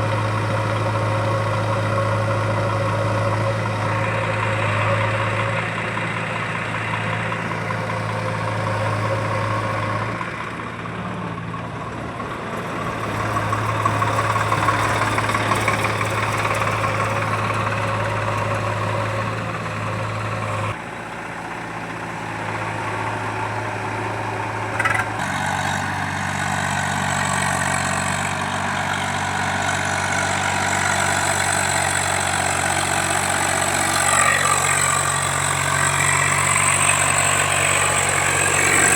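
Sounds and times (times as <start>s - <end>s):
heavy diesel engines running: 0.0s - 38.9s.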